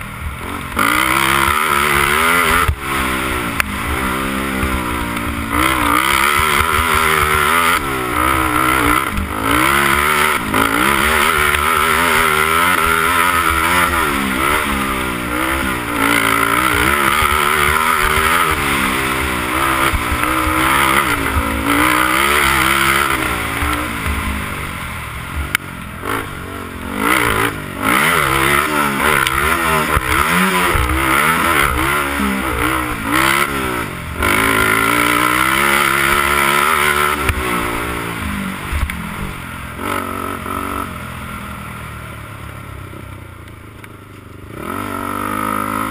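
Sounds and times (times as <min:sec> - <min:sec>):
quad engine revving: 0:00.0 - 0:41.2, 0:44.4 - 0:45.9.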